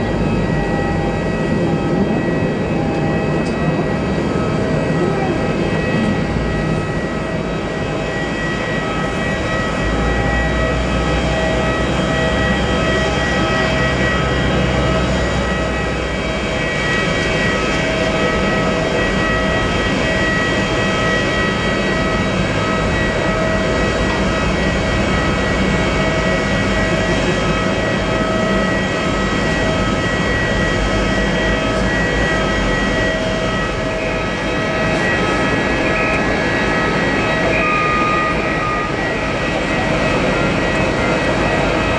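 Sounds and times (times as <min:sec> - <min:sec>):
aircraft turbine whine: 0:00.0 - 0:41.9.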